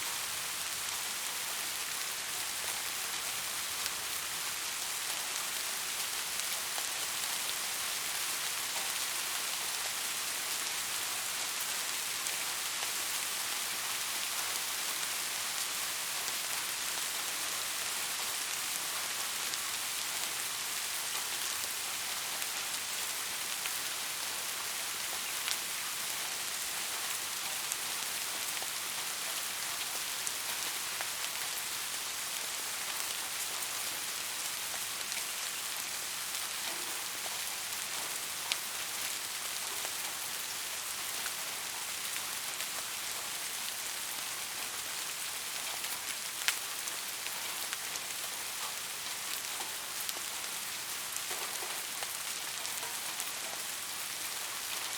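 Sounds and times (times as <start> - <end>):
steady rain hiss: 0.0 - 54.9
rain drops ticking: 1.8 - 54.9.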